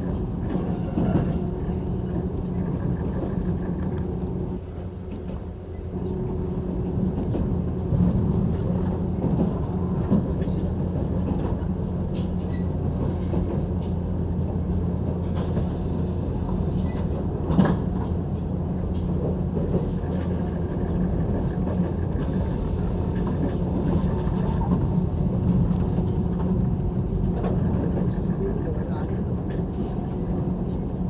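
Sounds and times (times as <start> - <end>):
train cabin running hum: 0.0 - 31.0.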